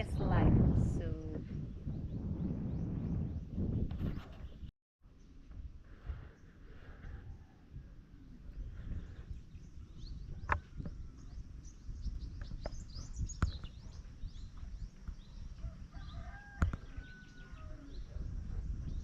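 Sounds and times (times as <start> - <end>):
small birds chirping: 1.7 - 19.0.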